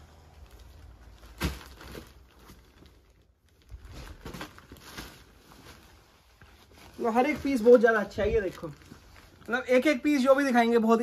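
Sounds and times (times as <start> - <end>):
cushions rustling: 0.0 - 10.0.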